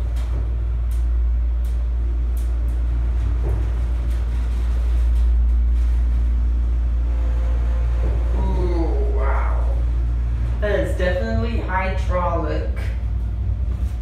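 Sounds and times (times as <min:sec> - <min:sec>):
elevator low rumble: 0:00.0 - 0:14.0.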